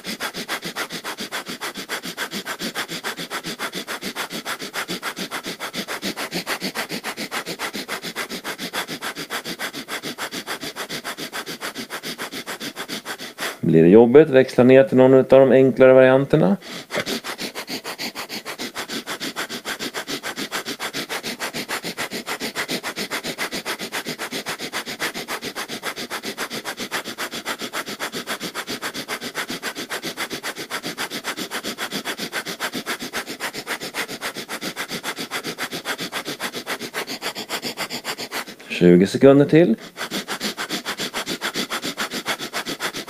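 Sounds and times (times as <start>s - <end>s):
man breathing rapidly through nose: 0.0s - 43.0s.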